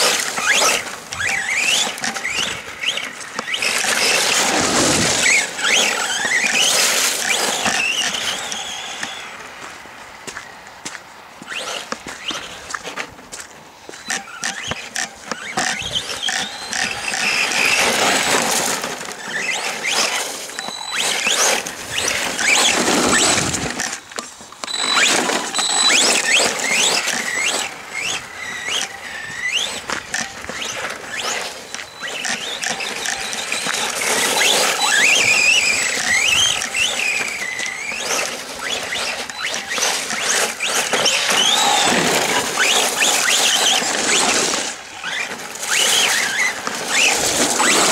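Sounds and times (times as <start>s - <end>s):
electric motor and gears whining: 0.0s - 47.9s
tyres crunching on wet dirt: 0.0s - 47.9s.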